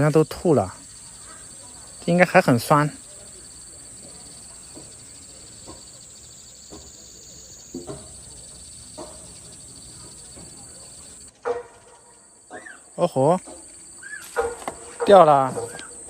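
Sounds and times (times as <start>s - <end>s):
faint chirps: 0.0s - 16.0s
insects droning: 0.0s - 16.0s
loud insect call: 0.0s - 16.0s.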